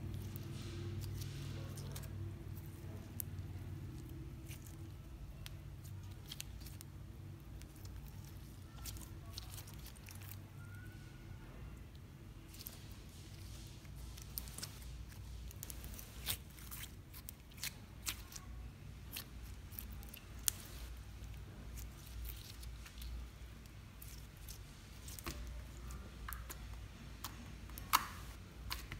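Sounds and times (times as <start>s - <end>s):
slime clicking and squishing: 0.0s - 11.0s, 11.8s - 28.9s.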